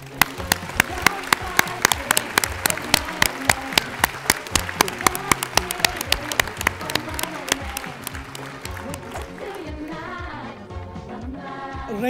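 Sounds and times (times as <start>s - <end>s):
hand claps near microphone: 0.0s - 10.0s
quiet background music: 0.0s - 12.0s.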